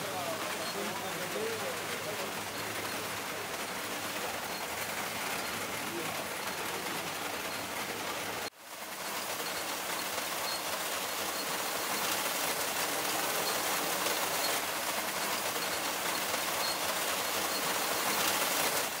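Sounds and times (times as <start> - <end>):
seeds hissing and rattling in sorter: 0.0 - 19.0.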